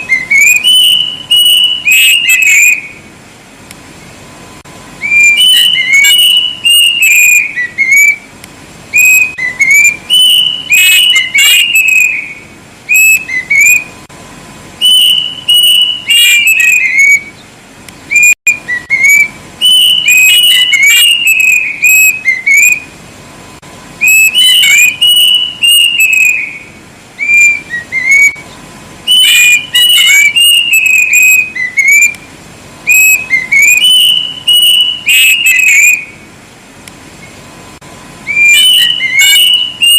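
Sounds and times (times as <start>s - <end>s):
cuckoo singing high whistled notes: 0.0s - 3.1s, 5.0s - 14.0s, 14.8s - 23.0s, 24.0s - 36.3s, 38.2s - 39.9s.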